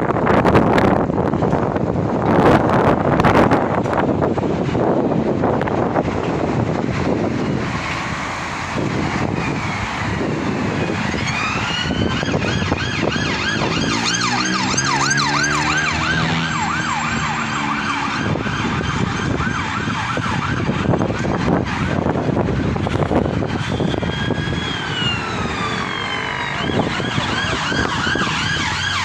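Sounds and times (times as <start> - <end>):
traffic rumble: 0.0 - 29.0
wind: 0.0 - 29.0
emergency vehicle siren: 2.4 - 29.0.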